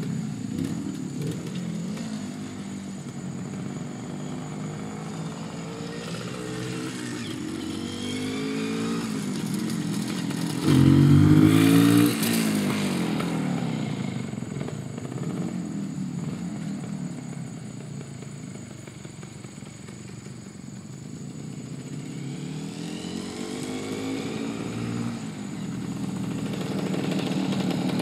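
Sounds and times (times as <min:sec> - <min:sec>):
motorcycle engine passing: 0:00.0 - 0:28.0.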